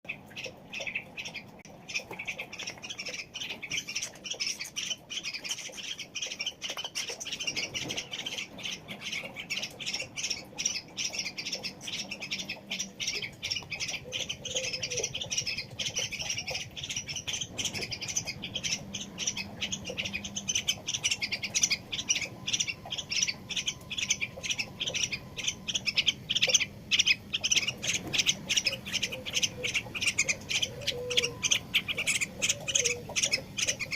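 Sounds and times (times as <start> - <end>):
bird squawking chirps: 0.1 - 33.9.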